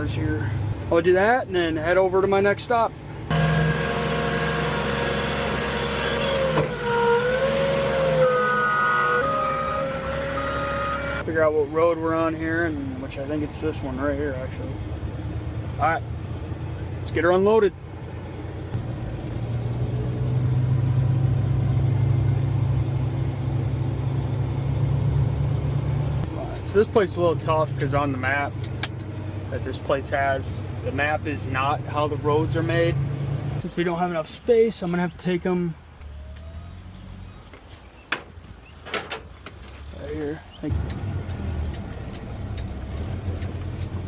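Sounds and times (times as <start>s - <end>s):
truck engine and road rumble: 0.0s - 44.0s
engine whine: 3.2s - 33.8s, 35.8s - 44.0s.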